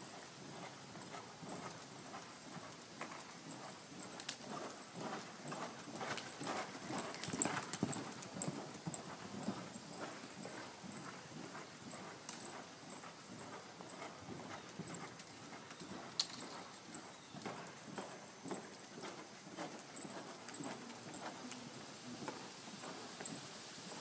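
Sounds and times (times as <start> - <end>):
horse hoofbeats on dirt: 0.0 - 24.0.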